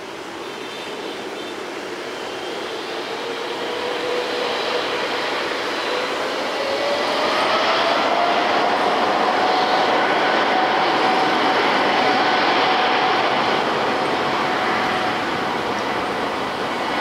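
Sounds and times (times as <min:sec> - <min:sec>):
jet engines spooling up: 0:01.9 - 0:17.0
rising engine whine: 0:02.4 - 0:17.0.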